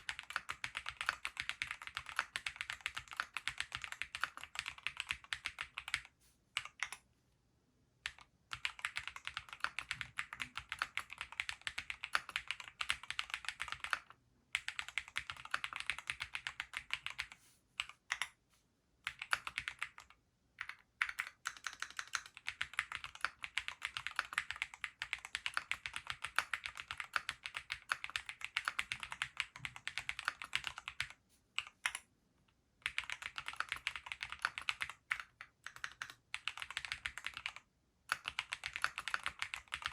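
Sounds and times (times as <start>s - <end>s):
rapid keyboard typing: 0.0s - 7.0s, 8.0s - 18.4s, 19.0s - 32.1s, 32.8s - 39.9s.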